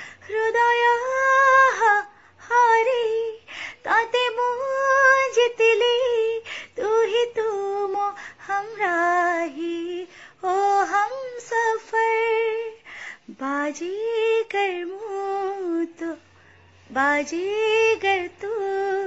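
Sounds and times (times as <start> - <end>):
woman singing unaccompanied: 0.0 - 16.3, 16.9 - 19.0.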